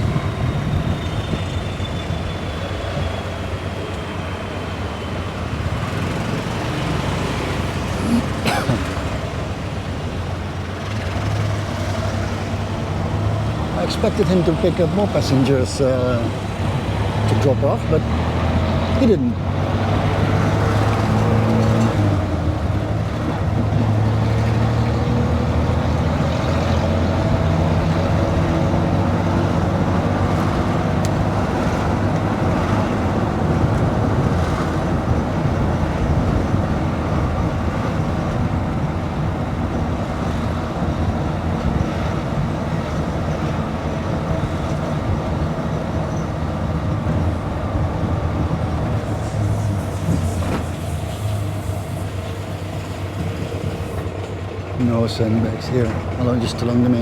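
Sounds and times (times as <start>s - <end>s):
road and wind noise: 0.0s - 57.0s
tuk-tuk engine running: 0.0s - 57.0s.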